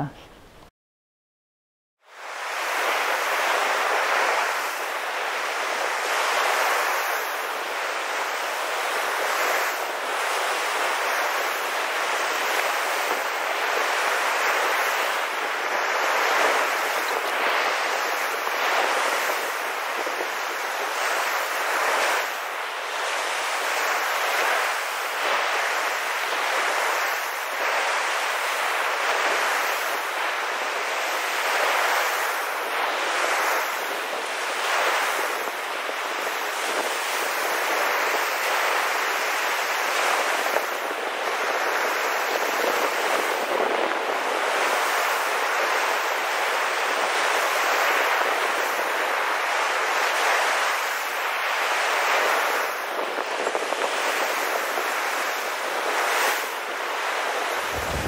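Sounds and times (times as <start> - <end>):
waves breaking on beach: 2.1 - 58.0.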